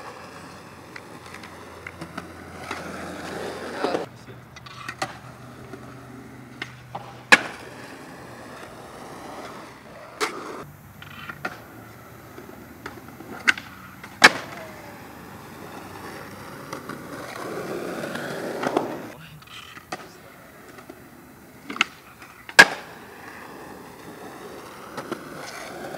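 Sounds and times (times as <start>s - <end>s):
skateboard clacking: 0.0s - 25.9s
skateboard wheels rolling on concrete: 0.0s - 25.9s.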